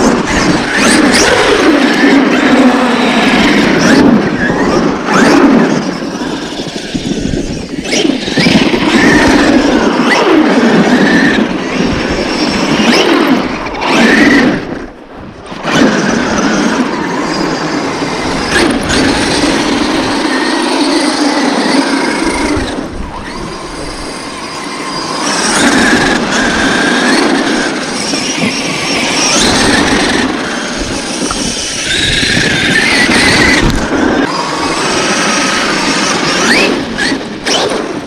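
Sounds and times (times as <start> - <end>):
electric motor whine: 0.0 - 38.0.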